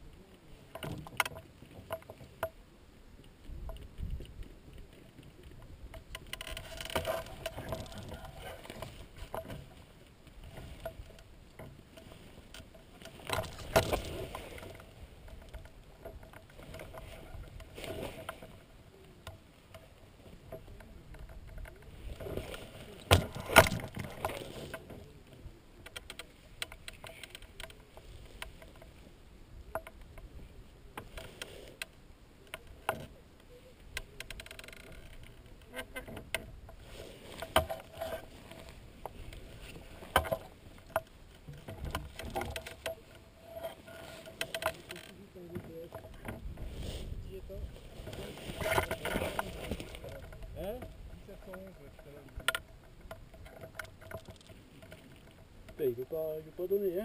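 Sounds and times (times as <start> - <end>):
movement in dry grass: 3.4 - 29.4, 30.0 - 57.0.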